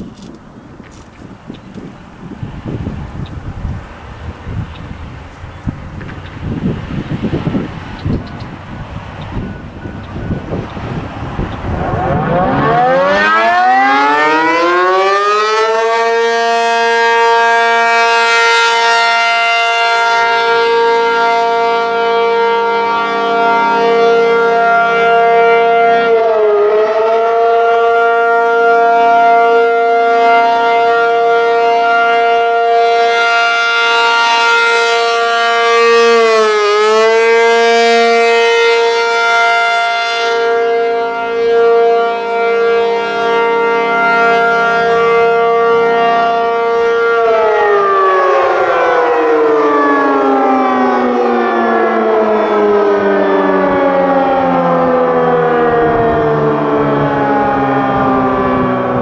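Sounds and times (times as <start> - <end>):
siren steady tone: 1.7 - 59.0.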